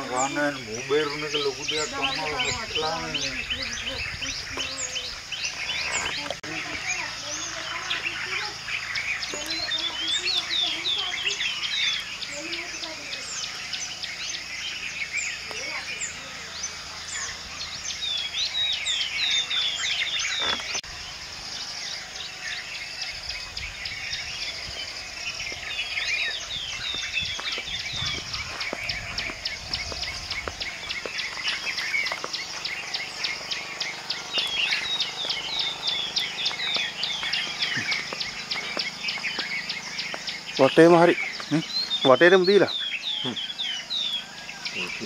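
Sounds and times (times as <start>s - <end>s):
birds chirping: 0.0s - 45.0s
high insect trill: 0.0s - 45.0s.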